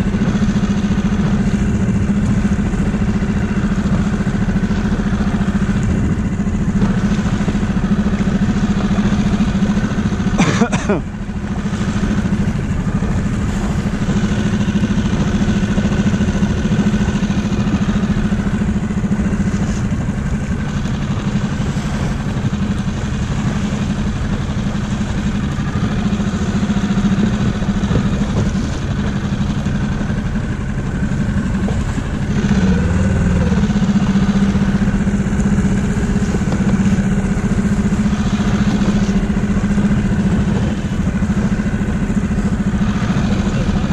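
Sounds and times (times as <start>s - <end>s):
small outboard motor running: 0.0s - 43.9s.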